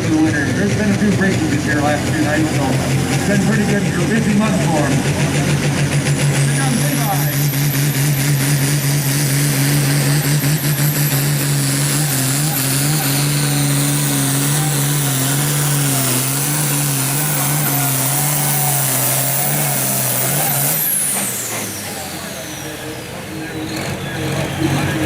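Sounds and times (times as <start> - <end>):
diesel engine running hard: 0.0 - 25.0.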